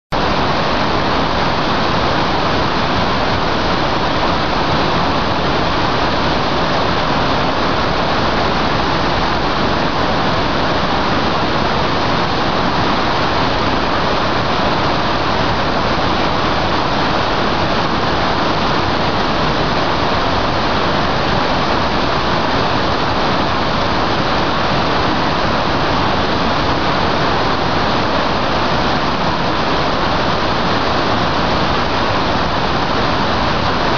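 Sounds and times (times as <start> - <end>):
waterfall crashing: 0.2 - 33.9.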